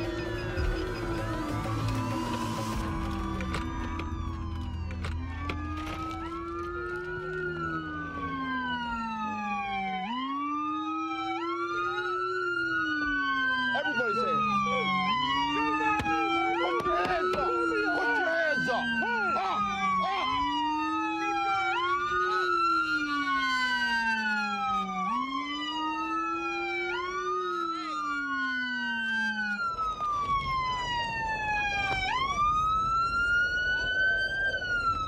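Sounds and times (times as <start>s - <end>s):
police sirens wailing: 0.0s - 35.0s.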